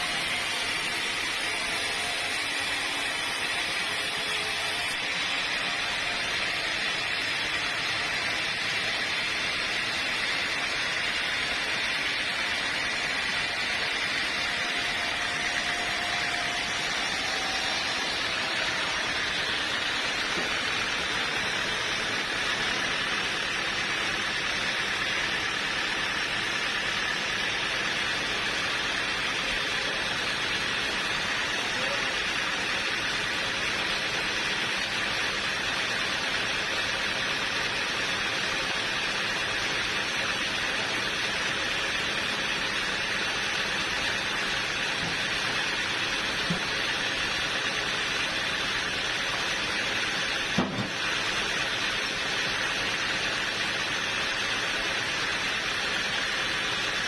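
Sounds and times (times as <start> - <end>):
steady hissing machinery: 0.0 - 57.0.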